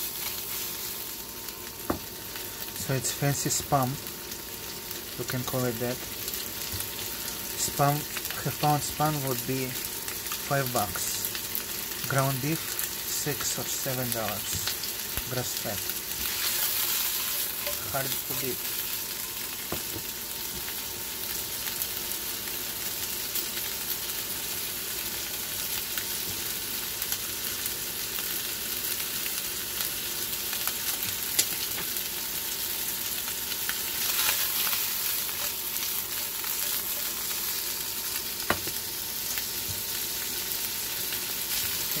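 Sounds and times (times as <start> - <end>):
meat sizzling in a frying pan: 0.0 - 42.0.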